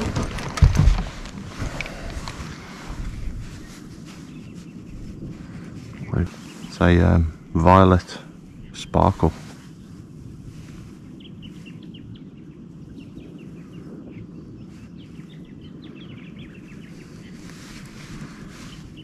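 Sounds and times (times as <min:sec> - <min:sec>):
low background rumble: 0:00.0 - 0:19.0
small birds chirping: 0:00.8 - 0:19.0.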